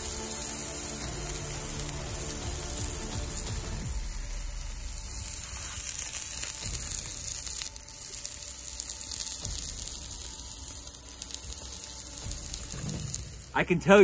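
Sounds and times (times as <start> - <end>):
butter sizzling in a skillet: 0.0 - 13.6
steaks sizzling on a grill: 0.0 - 13.6.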